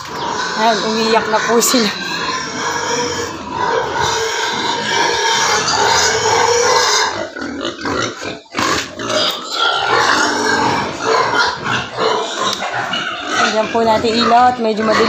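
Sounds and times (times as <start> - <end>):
pigs squealing loudly: 0.0 - 15.0.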